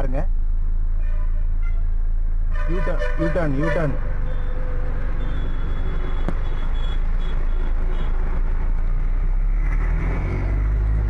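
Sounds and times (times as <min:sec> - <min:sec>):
road traffic rumble inside car: 0:00.0 - 0:11.0.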